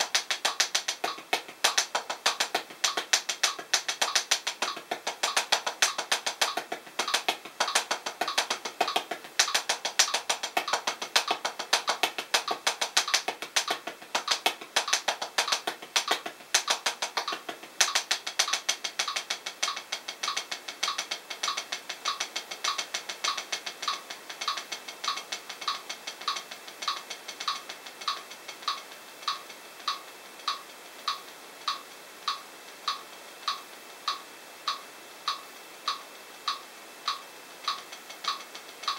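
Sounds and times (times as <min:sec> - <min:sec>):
drumsticks on practice pad: 0:00.0 - 0:38.9
metronome click: 0:00.0 - 0:38.9.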